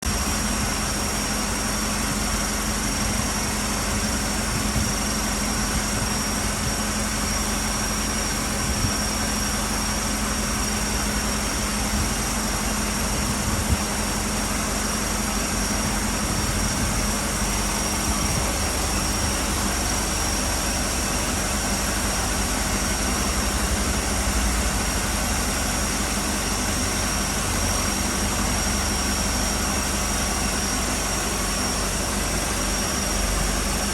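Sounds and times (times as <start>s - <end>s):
vehicle engine idling: 2.3s - 33.9s.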